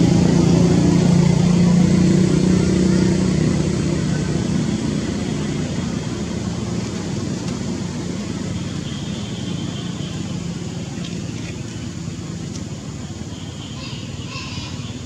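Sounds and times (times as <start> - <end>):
vehicle engine rumbling by: 0.0 - 15.0.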